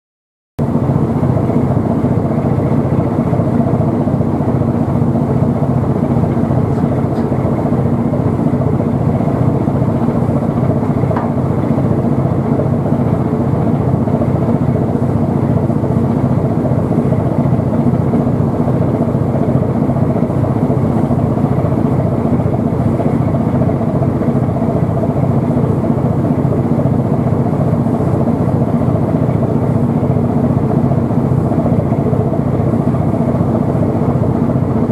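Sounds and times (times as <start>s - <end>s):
engine drone: 0.6s - 34.9s.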